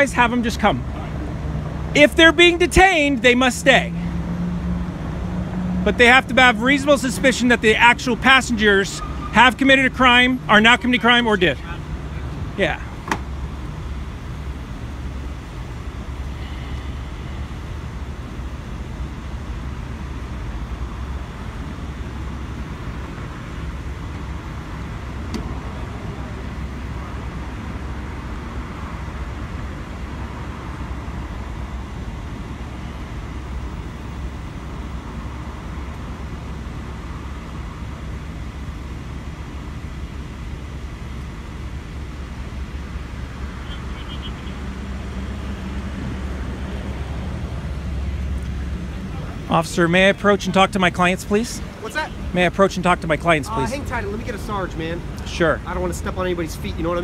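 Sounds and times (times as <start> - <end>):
cars idling: 0.0 - 57.0
road traffic: 0.0 - 57.0.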